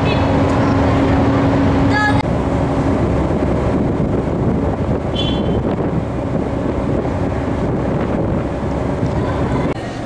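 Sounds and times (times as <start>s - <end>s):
ship engines droning: 0.0s - 10.0s
wind buffeting microphone: 0.0s - 10.0s.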